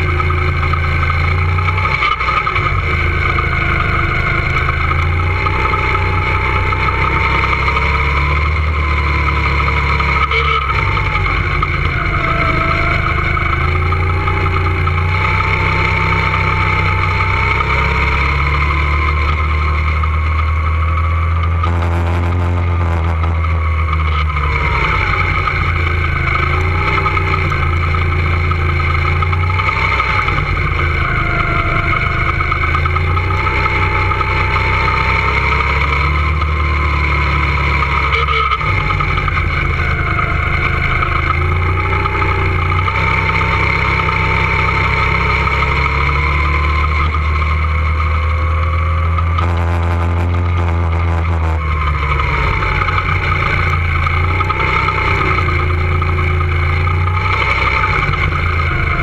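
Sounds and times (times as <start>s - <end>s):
go-kart motor running hard: 0.0s - 59.0s
steady low rumble: 0.0s - 59.0s.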